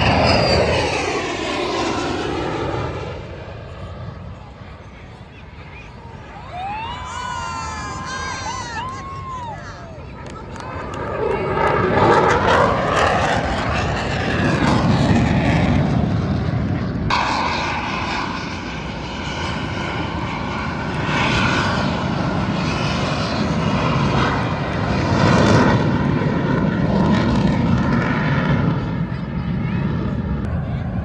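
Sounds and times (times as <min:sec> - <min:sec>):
aircraft engines passing overhead: 0:00.0 - 0:31.0.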